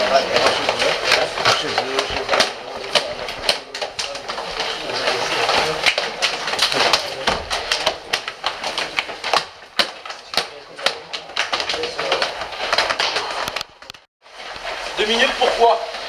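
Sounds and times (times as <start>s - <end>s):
indistinct voices: 0.0s - 13.6s
clatter of clacks and knocks: 0.0s - 16.0s.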